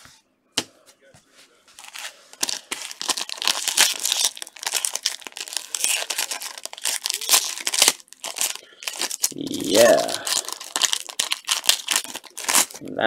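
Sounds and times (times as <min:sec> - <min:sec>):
foil wrapper crinkling and tearing: 0:01.8 - 0:12.8.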